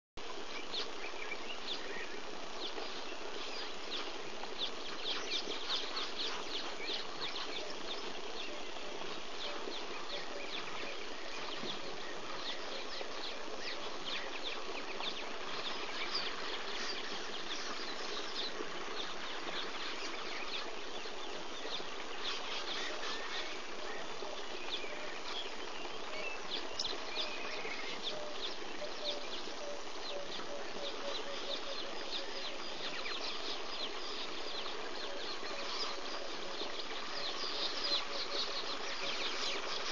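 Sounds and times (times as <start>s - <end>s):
constant hiss: 0.2s - 39.9s
insects and birds chirping: 0.2s - 39.9s.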